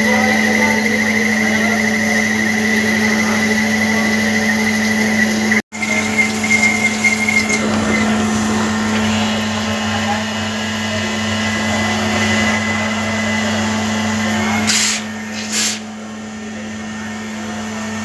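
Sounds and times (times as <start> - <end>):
machine tool humming and whining: 0.0 - 18.0.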